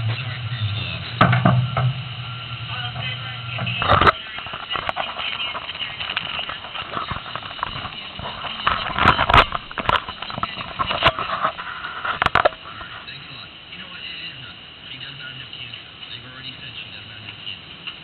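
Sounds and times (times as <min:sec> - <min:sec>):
welding arc crackling and popping: 0:00.0 - 0:18.0.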